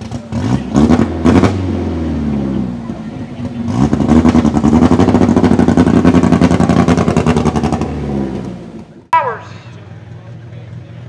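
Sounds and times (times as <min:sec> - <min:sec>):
truck engine at high revs: 0:00.0 - 0:09.1.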